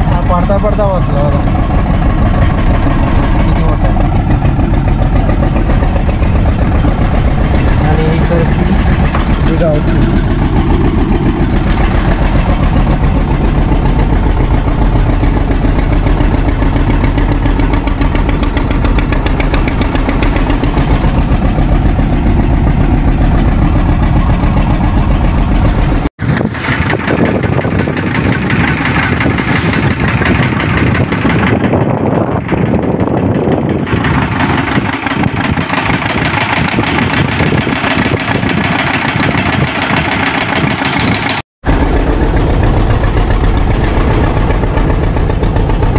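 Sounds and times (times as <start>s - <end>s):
boat engine idling: 0.0s - 45.9s.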